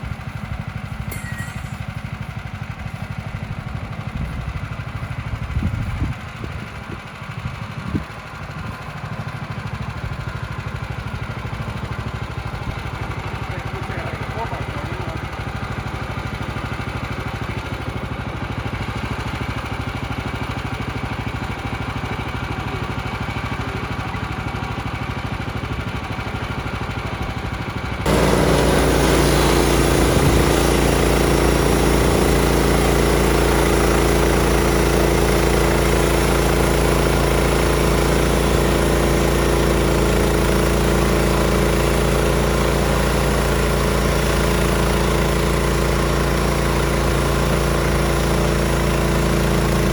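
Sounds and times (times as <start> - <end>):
small gasoline engine idling: 0.0 - 49.9.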